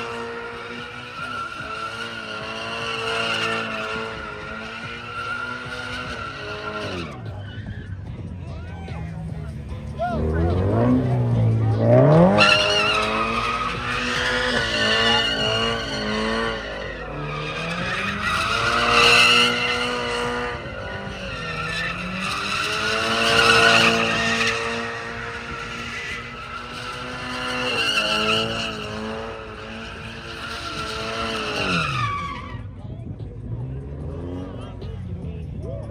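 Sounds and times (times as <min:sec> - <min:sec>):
tyres squealing and skidding: 0:00.0 - 0:35.1
car engine revving: 0:00.0 - 0:35.8.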